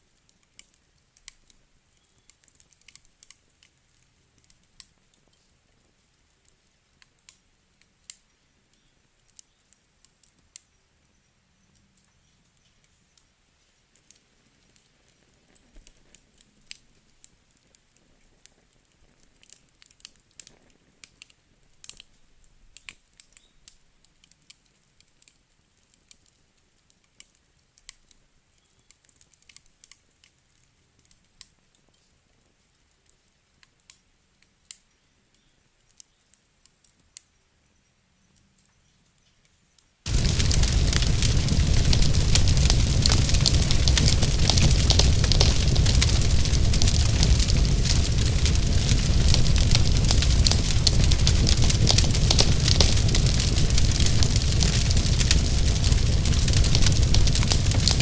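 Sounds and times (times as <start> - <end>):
wood fire crackling: 0.0 - 10.8, 11.9 - 34.8, 40.0 - 58.0.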